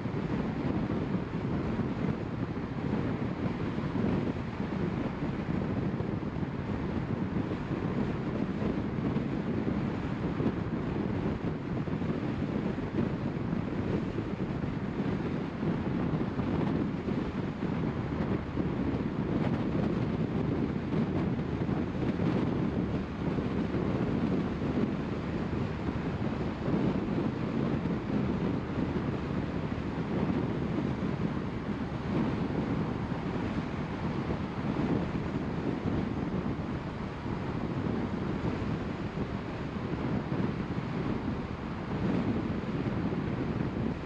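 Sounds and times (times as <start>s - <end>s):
wind noise: 0.0s - 44.0s.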